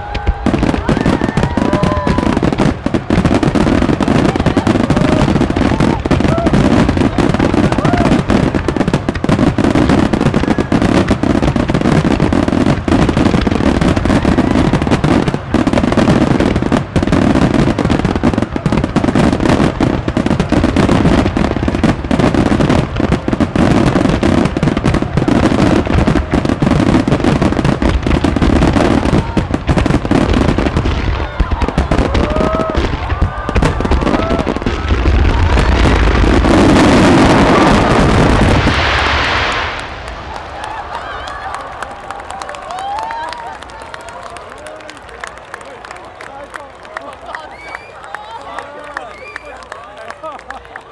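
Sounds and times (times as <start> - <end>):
fireworks whistling: 0.0 - 43.7
fireworks bursting and crackling: 0.0 - 50.9.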